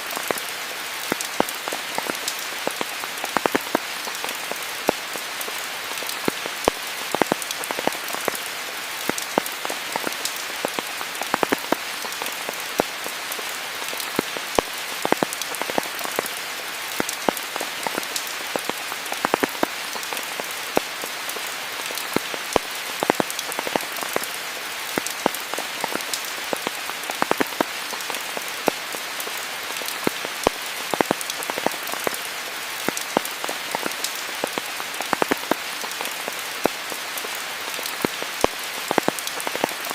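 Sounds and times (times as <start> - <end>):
raindrops ticking close by: 0.0 - 39.9
steady rain: 0.0 - 39.9.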